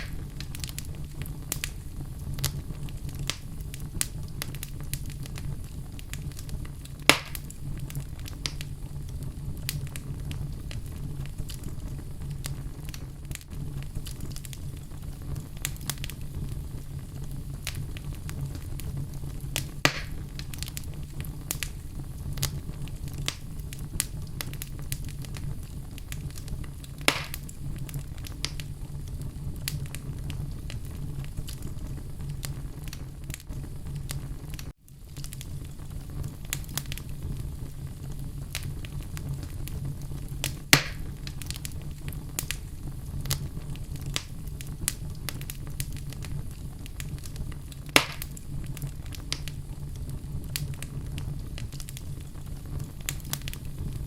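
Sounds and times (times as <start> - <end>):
fire crackles: 0.0 - 54.0
flames rumbling in fireplace: 0.0 - 54.0
loud fire pops: 0.0 - 54.0.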